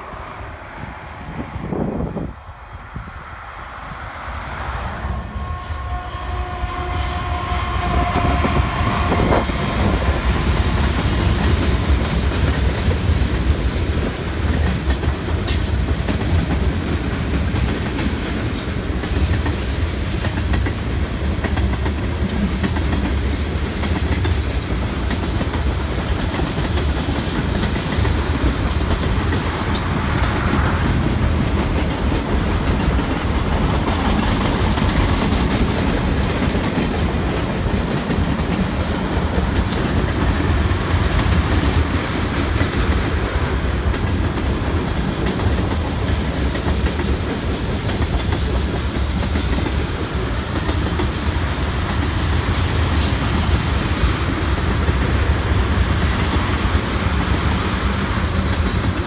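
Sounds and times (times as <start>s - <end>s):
freight cars clickety-clack: 7.3s - 59.0s.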